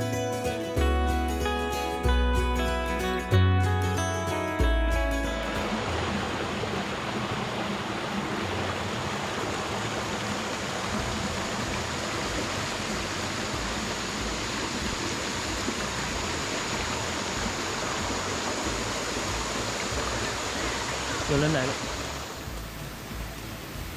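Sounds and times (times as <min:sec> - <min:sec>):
stream running over rocks: 0:04.7 - 0:23.9.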